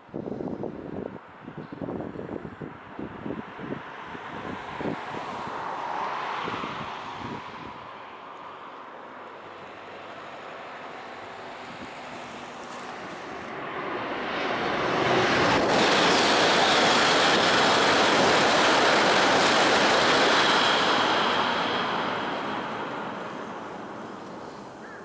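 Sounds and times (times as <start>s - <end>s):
high-speed train rushing past: 1.9s - 24.8s.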